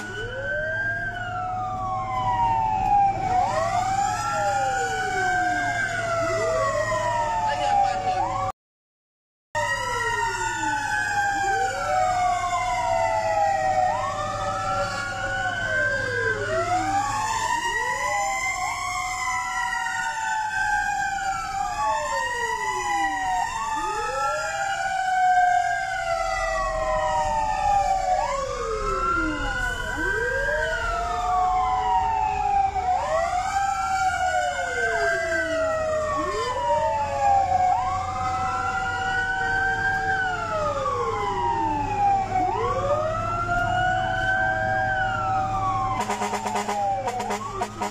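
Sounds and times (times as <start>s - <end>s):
fire truck sirens wailing: 0.0s - 8.6s, 9.6s - 47.9s.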